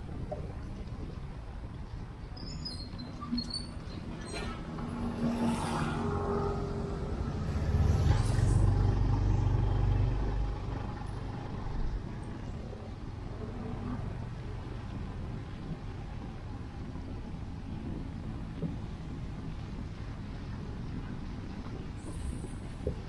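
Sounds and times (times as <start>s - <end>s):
vehicle engine rumble passing: 3.2s - 23.0s.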